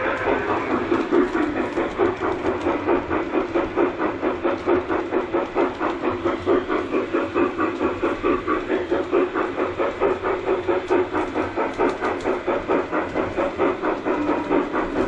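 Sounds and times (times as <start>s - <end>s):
model locomotive steam chuff: 0.0s - 15.0s
steam hiss: 0.0s - 15.0s.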